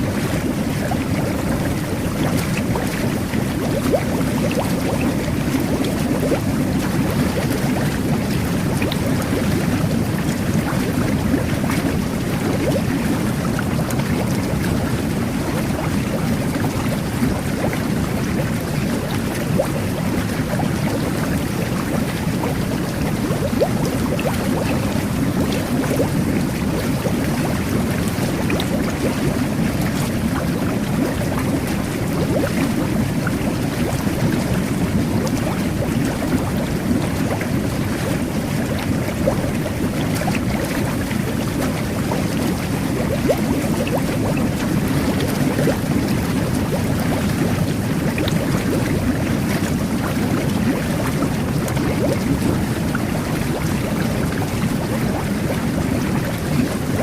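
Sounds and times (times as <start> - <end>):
bubbles bursting: 0.0 - 57.0
jet bath water churning: 0.0 - 57.0.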